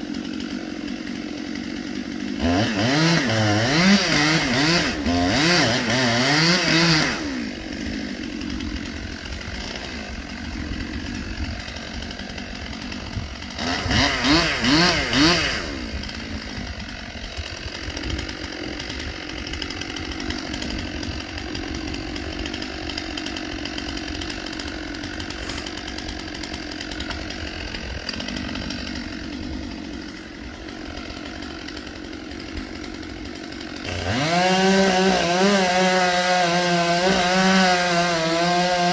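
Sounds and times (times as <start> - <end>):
chainsaw idling: 0.0 - 38.9
chainsaw revving: 0.0 - 38.9.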